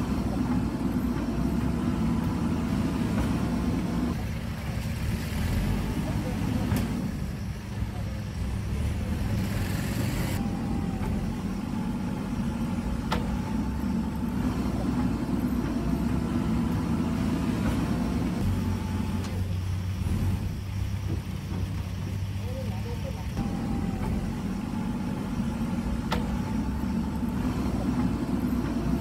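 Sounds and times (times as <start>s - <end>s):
backhoe diesel engine running: 0.0s - 29.0s.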